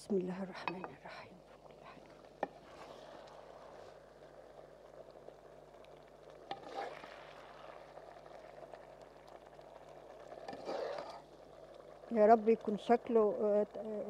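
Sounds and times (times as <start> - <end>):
food frying in a pot: 0.0 - 14.0.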